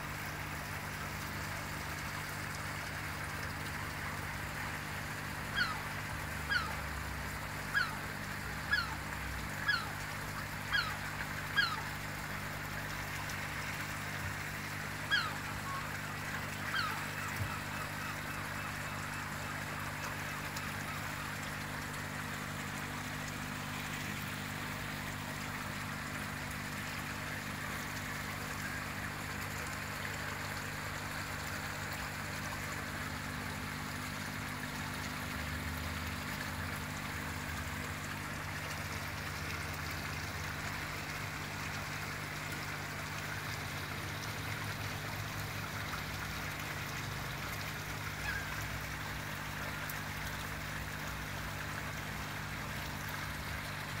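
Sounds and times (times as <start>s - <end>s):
constant low hum: 0.0s - 54.0s
running trickling water: 0.0s - 54.0s.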